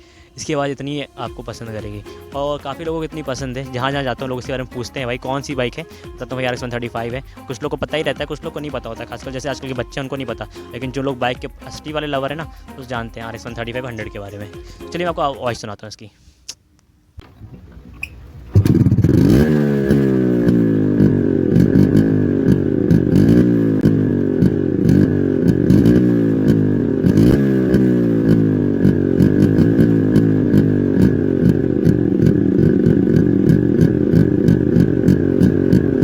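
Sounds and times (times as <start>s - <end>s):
motorcycle engine idling: 1.3s - 15.0s, 17.2s - 36.0s.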